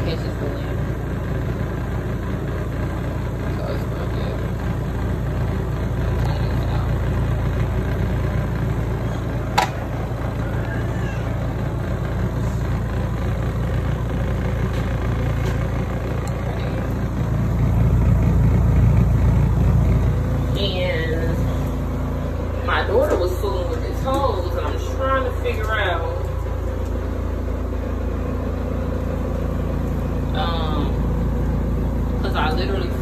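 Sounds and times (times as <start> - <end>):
washing machine motor hum: 0.0 - 33.0.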